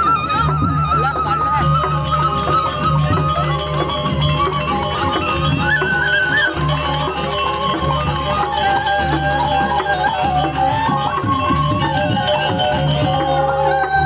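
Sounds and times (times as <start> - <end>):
gamelan playing: 0.0 - 14.0.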